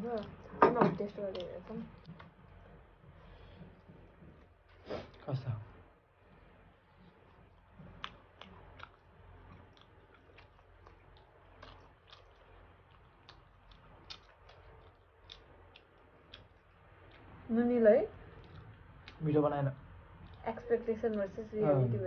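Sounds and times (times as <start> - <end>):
quiet chewing: 0.0 - 21.6.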